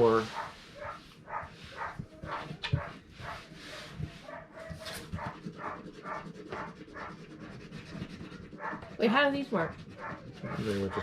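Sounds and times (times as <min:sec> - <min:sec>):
dog panting: 0:00.1 - 0:11.0.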